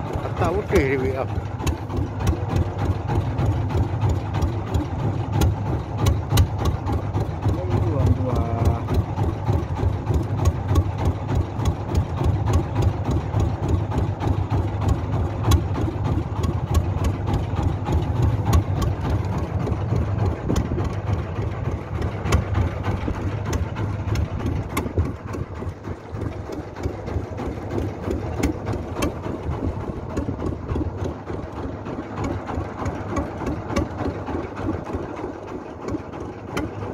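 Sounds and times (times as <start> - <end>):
engine running at low revs: 0.0 - 36.9.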